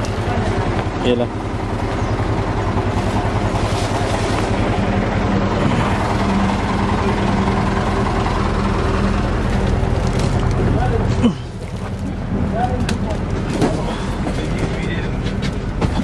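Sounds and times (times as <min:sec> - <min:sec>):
bus engine idling: 0:00.0 - 0:16.0.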